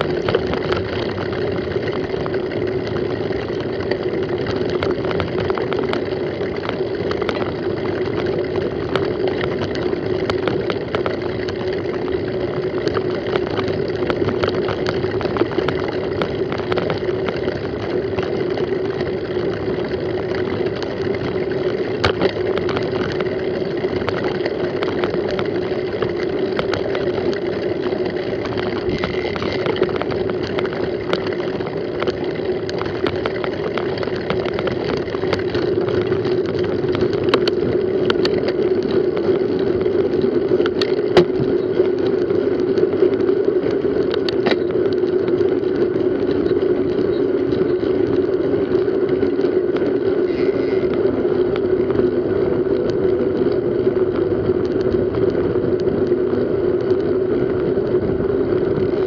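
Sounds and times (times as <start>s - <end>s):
steady hum: 0.0s - 55.7s
mountain bike rattling: 0.0s - 59.0s
wind rushing over camera: 0.0s - 59.0s.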